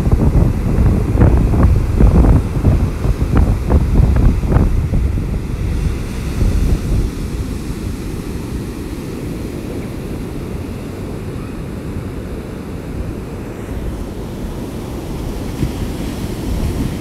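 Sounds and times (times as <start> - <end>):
heavy surf breaking: 0.0 - 17.0
wind buffeting the microphone: 0.0 - 17.0.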